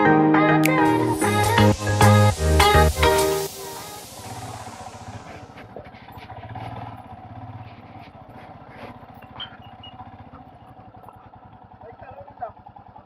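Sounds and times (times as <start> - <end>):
motorcycle engine running: 1.3 - 13.0.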